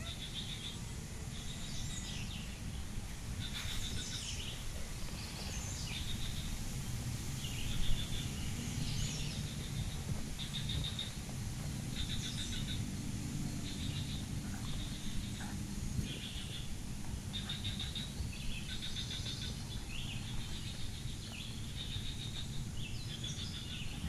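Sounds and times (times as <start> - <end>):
birds calling in trills: 0.0 - 24.0
low outdoor rumble: 0.0 - 24.0.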